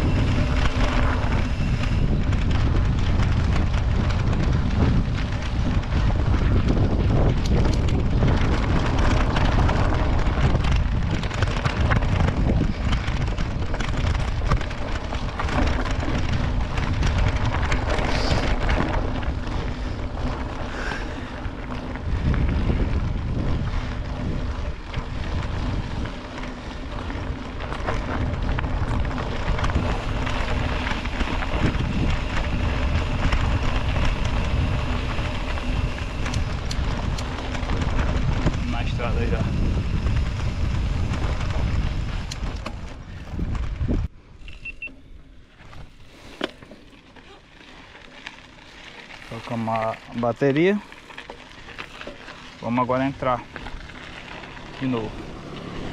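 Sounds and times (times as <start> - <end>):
wind buffeting microphone: 0.0 - 46.2
bike rattling over dirt trail: 0.0 - 55.9.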